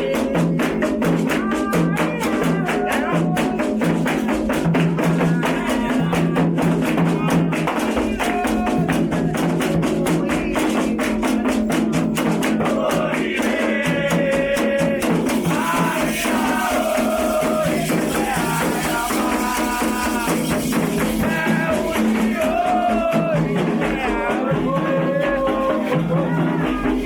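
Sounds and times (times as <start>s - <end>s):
drum: 0.0s - 27.0s
fast percussion strokes: 0.0s - 27.0s
singing: 0.0s - 27.0s.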